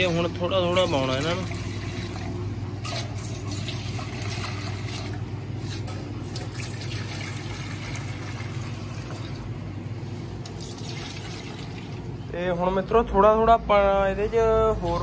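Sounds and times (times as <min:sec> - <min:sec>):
air cooler humming: 0:00.0 - 0:15.0.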